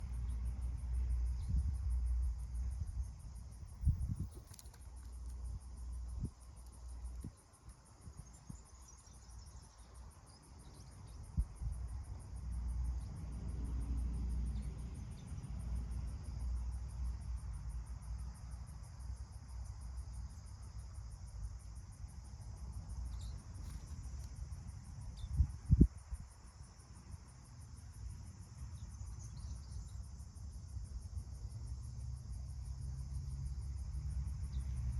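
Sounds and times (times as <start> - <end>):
high-pitched insect trill: 0.0 - 34.9.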